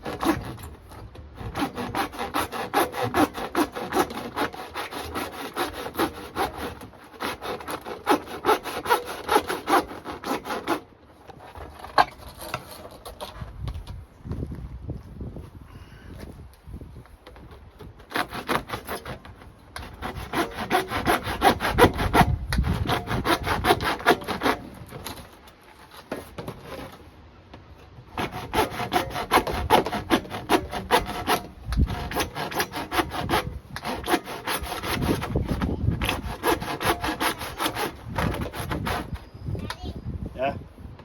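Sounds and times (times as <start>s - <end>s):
hand saw cutting: 0.0s - 13.4s, 17.9s - 27.0s, 28.0s - 39.3s.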